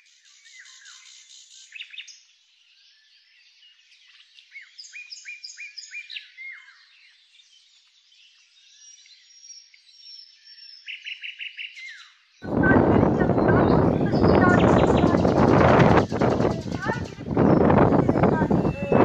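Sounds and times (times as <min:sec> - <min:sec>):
birds singing and chirping: 0:00.0 - 0:19.0.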